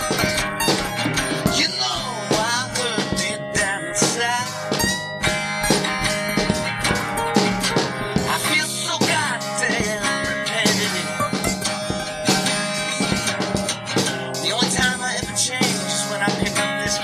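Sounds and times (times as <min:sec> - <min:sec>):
blues-rock guitar: 0:00.0 - 0:17.0
drum kit: 0:00.0 - 0:17.0.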